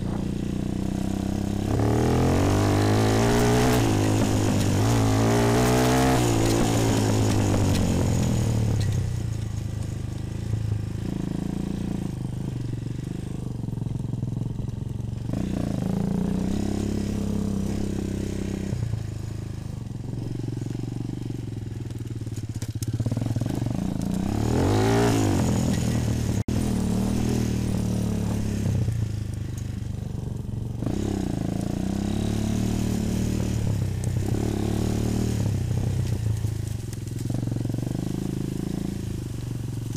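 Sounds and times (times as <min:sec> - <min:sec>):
quad engine revving: 0:00.0 - 0:22.0, 0:22.6 - 0:39.9.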